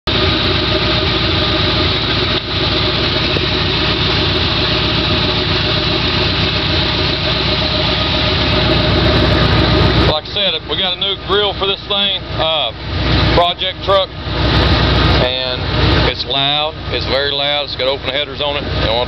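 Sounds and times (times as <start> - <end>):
loud engine idling: 0.0 - 19.0.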